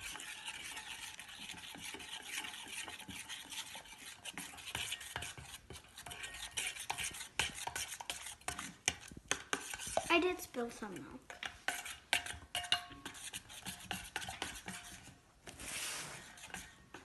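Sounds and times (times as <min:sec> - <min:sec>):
utensil scraping bowl: 0:00.0 - 0:17.0
utensil clinking against bowl: 0:00.1 - 0:10.1, 0:11.3 - 0:15.0.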